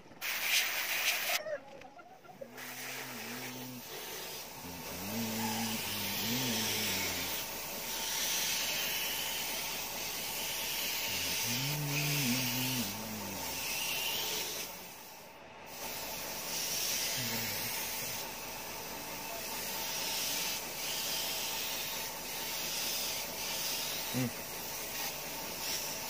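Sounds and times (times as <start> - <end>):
airbrush hissing: 0.2 - 1.4, 2.4 - 26.0.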